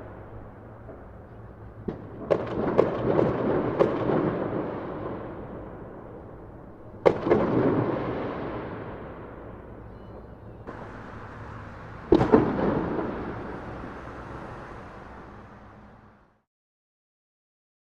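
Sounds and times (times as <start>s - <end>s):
firework explosions: 0.0s - 16.3s.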